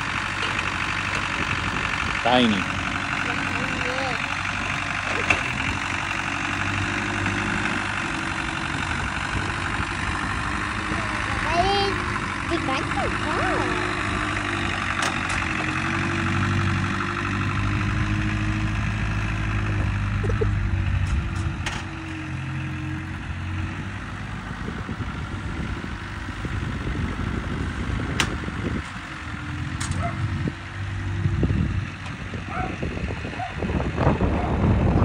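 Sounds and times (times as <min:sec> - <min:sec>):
forklift engine running: 0:00.0 - 0:35.0.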